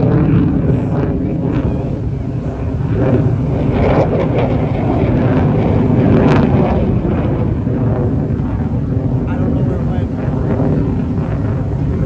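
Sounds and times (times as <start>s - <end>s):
plane engine rumble: 0.0s - 12.0s
wind buffeting microphone: 0.0s - 12.0s.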